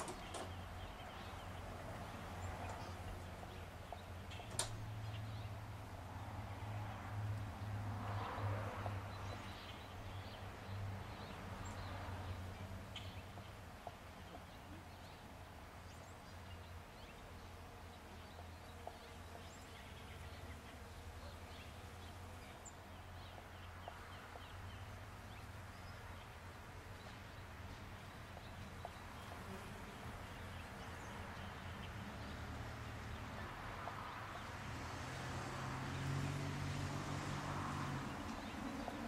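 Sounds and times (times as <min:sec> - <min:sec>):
birds chirping: 0:00.0 - 0:05.9, 0:06.7 - 0:36.5, 0:37.1 - 0:39.0.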